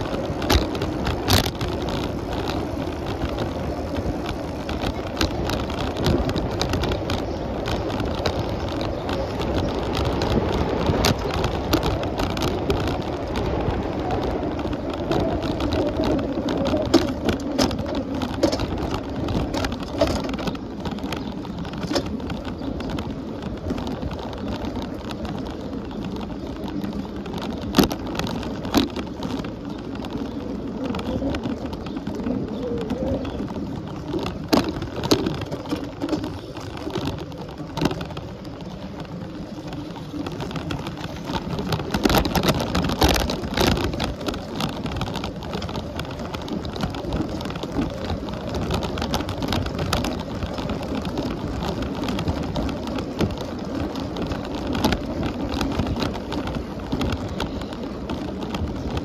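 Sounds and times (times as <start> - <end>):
bicycle riding rumble: 0.0 - 59.0
sharp clicks and knocks: 0.0 - 59.0.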